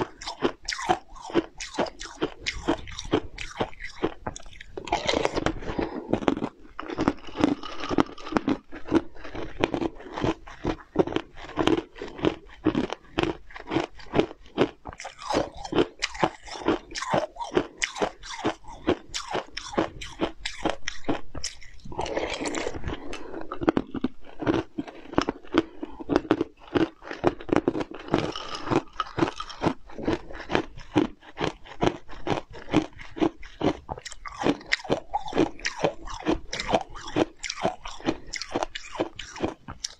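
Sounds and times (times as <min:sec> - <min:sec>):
person crunching food: 0:00.0 - 0:39.9.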